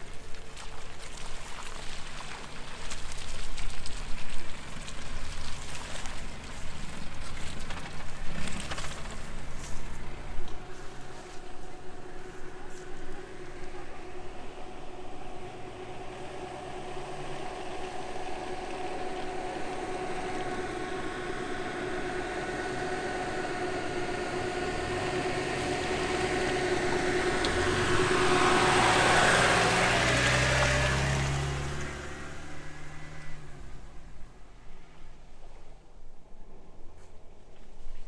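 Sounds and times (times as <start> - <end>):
off-road vehicle engine whining: 0.0 - 37.3.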